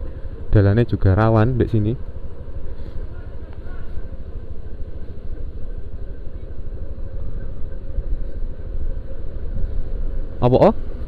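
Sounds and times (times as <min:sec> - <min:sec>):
scooter engine rumble: 0:00.0 - 0:11.0
wind buffeting microphone: 0:00.0 - 0:11.0.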